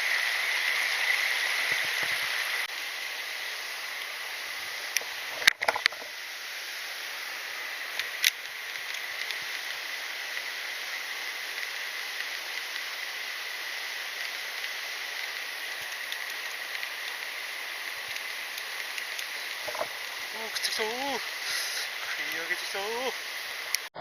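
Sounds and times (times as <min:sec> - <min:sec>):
stream rushing: 0:00.0 - 0:23.9.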